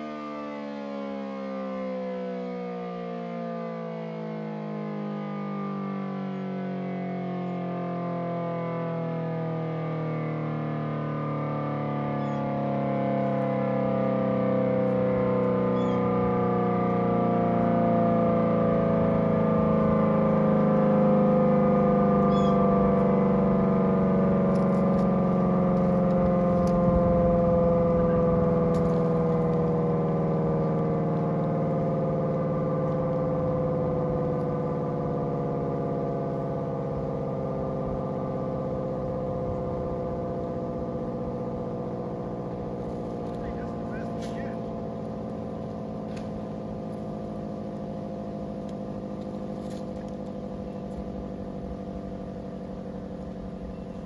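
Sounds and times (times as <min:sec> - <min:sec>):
siren winding down: 0:00.0 - 0:54.0.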